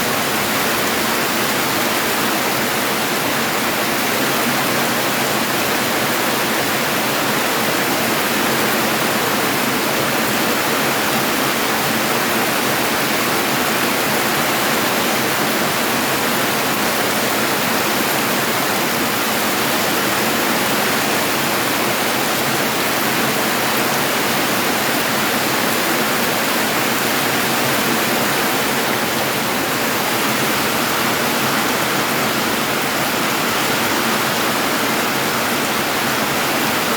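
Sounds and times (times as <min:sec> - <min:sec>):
rushing floodwater: 0:00.0 - 0:36.9.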